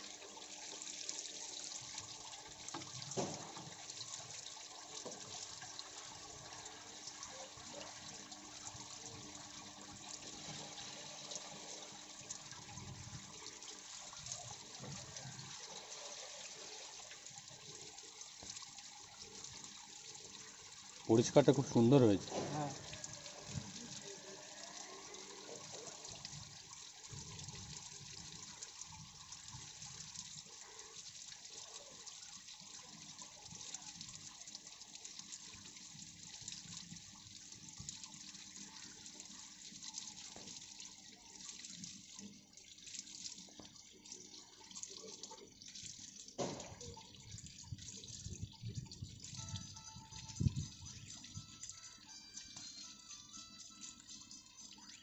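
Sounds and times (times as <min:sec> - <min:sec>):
oil pouring from a hose: 0:00.0 - 0:55.0.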